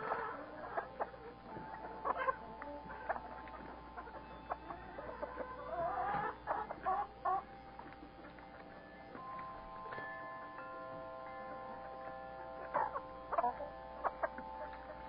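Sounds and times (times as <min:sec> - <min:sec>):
hens clucking: 0:00.0 - 0:09.9, 0:11.0 - 0:15.0.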